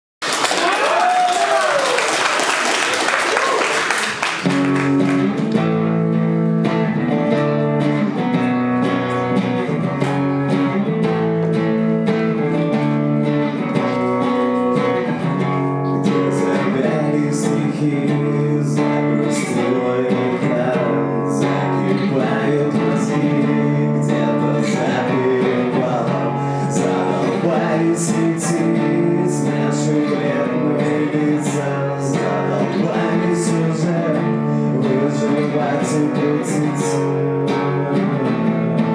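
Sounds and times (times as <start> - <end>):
acoustic guitar strumming chords: 4.3 - 38.9.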